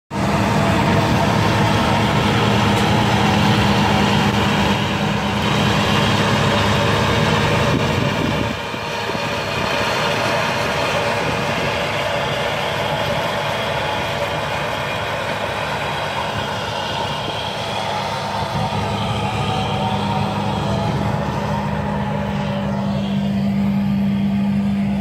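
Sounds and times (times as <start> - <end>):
combine harvester engine and machinery hum: 0.1 - 25.0.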